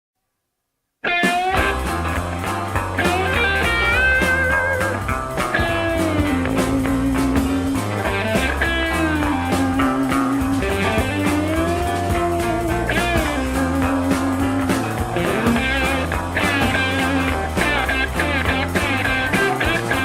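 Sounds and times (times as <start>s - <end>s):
bass guitar: 1.0s - 20.0s
drums: 1.0s - 20.0s
electric guitar lead lines: 1.0s - 20.0s.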